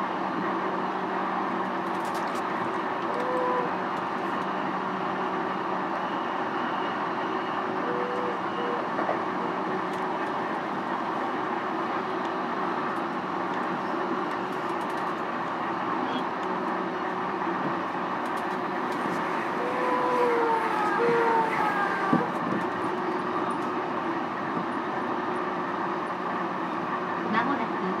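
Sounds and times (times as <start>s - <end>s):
train wheels rumbling on rail: 0.0s - 28.0s
constant hum: 0.1s - 6.0s, 7.6s - 28.0s.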